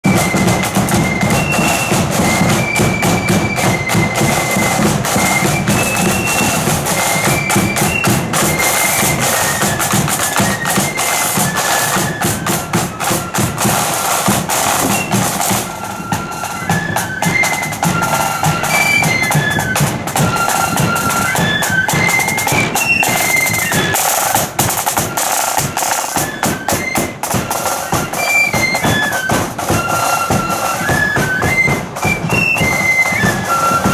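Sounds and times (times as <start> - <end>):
flutes playing in unison: 0.0 - 33.9
rattling side drums: 0.0 - 33.9.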